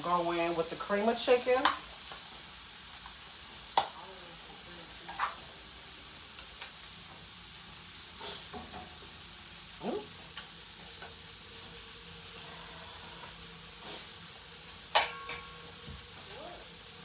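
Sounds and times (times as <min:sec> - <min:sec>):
vegetables sizzling in a skillet: 0:00.0 - 0:17.0.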